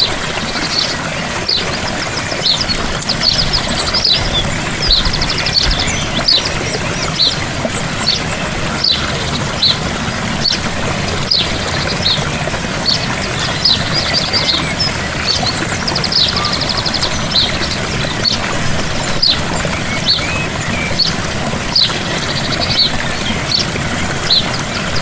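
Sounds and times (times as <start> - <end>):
small birds chirping: 0.0 - 25.0
waterfall rushing: 0.0 - 25.0.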